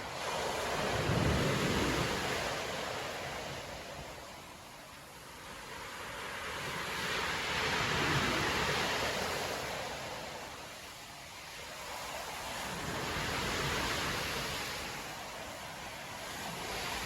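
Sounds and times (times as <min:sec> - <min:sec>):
surf waves crashing on beach: 0:00.0 - 0:17.0.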